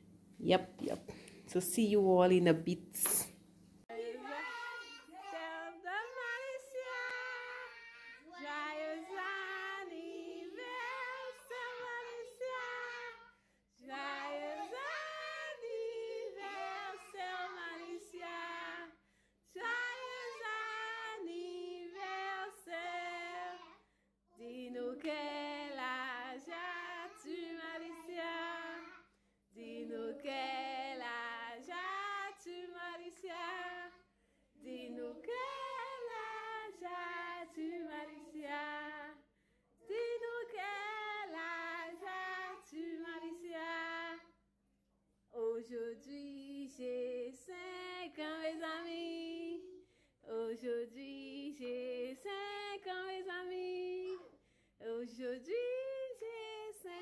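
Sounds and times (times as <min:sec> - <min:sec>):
children and woman singing: 0:03.9 - 0:44.5, 0:45.4 - 0:57.0.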